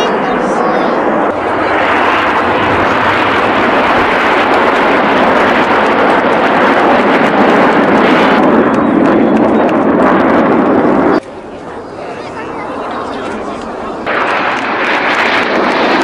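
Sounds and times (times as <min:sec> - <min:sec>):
jet roar overhead: 0:00.0 - 0:16.0.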